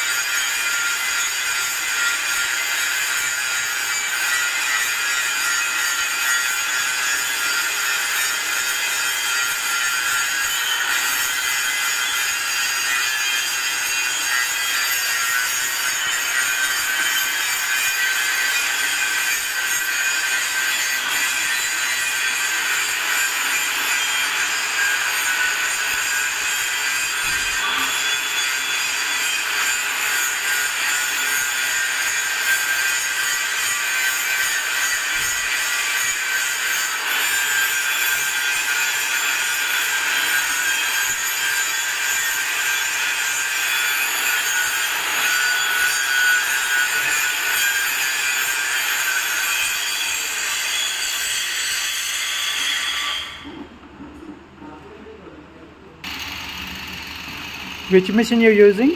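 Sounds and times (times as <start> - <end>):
angle grinder grinding steel pipe: 0.0 - 53.8, 56.0 - 58.9.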